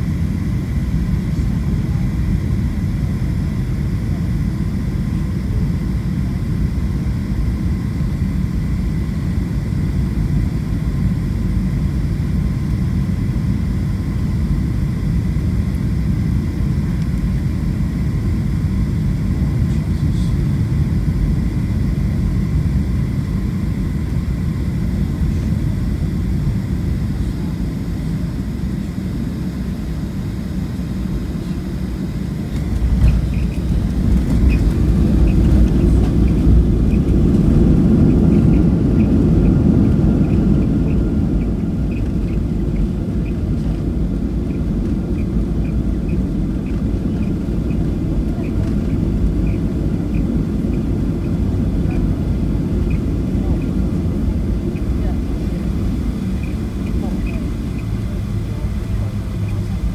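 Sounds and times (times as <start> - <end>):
airplane cabin rumble: 0.0 - 59.9
faint steady whine: 0.0 - 59.9.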